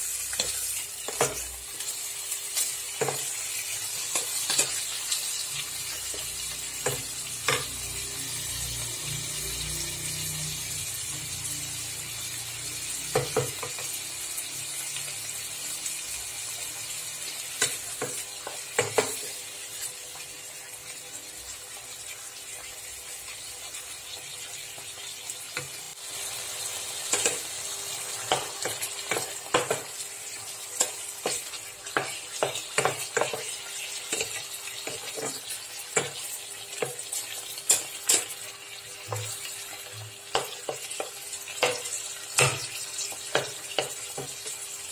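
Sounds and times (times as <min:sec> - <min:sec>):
chicken sizzling in a frying pan: 0:00.0 - 0:44.9.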